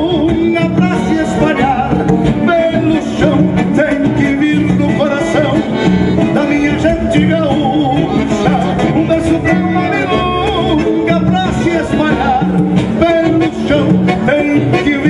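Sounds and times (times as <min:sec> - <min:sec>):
accordion: 0:00.0 - 0:15.0
acoustic guitars playing: 0:00.0 - 0:15.0
man singing: 0:00.0 - 0:15.0.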